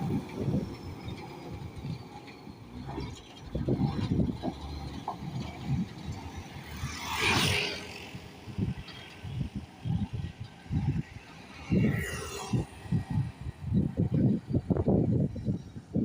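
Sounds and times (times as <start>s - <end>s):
road vehicles rumbling: 0.0s - 16.0s.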